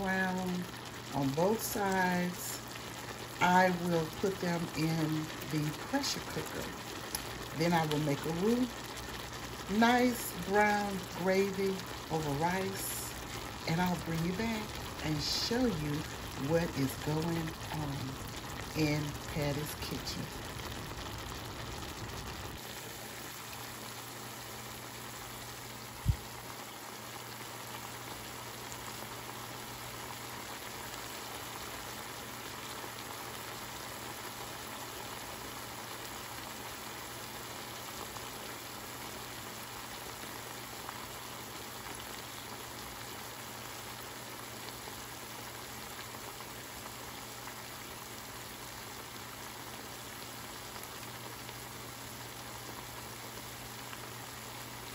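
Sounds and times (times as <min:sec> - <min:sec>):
food sizzling in hot oil: 0:00.0 - 0:54.9.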